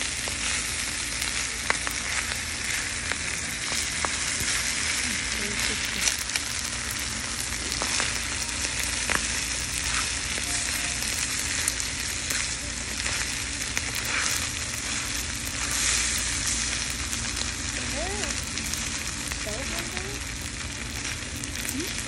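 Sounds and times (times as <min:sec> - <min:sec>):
rice crackling: 0:00.0 - 0:22.0
stone bowl sizzling: 0:00.0 - 0:22.0.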